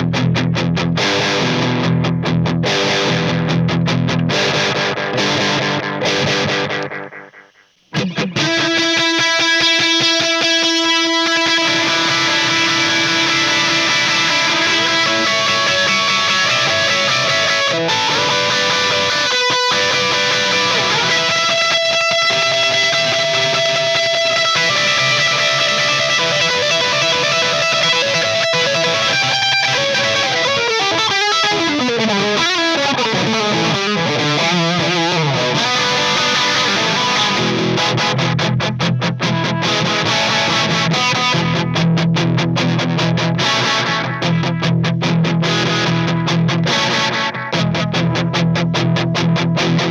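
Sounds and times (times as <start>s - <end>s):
electric guitar with delay and chorus: 0.0s - 49.9s.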